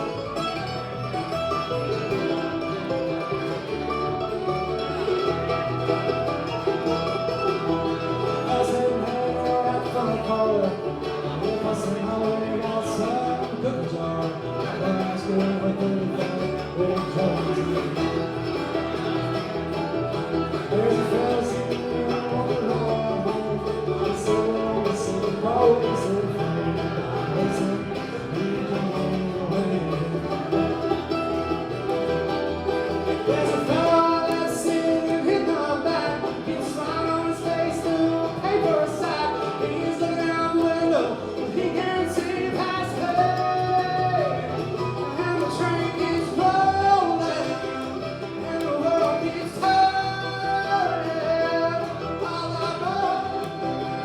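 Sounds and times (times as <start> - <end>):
banjo picking: 0.0 - 54.0
bluegrass band playing: 0.0 - 54.0
guitar picking: 0.0 - 54.0.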